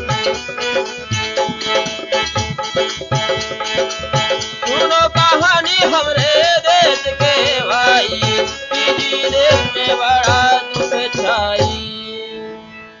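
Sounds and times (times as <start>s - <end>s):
hand drum strokes: 0.0s - 11.0s
instrumental melody: 0.0s - 13.0s.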